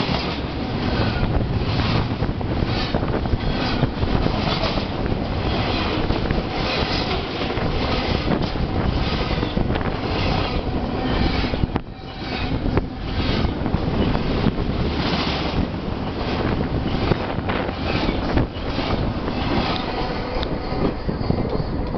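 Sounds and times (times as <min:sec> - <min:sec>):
freight train passing: 0:00.0 - 0:21.9
wheels knocking on rails: 0:00.0 - 0:21.9
wind buffeting microphone: 0:00.0 - 0:21.9.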